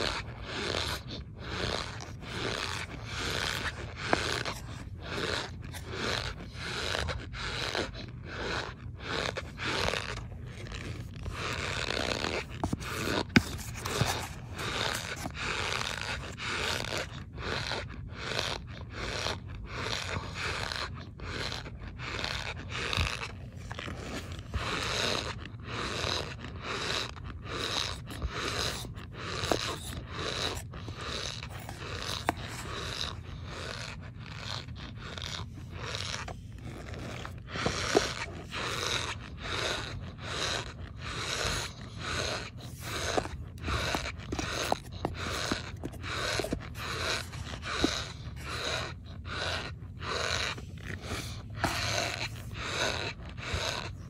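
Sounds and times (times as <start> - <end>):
cornstarch crunching and squeaking: 0.0 - 54.0.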